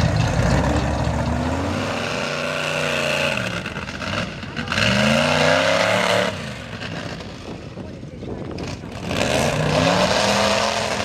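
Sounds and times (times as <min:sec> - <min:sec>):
truck engine revving hard: 0:00.0 - 0:07.4, 0:08.6 - 0:11.0.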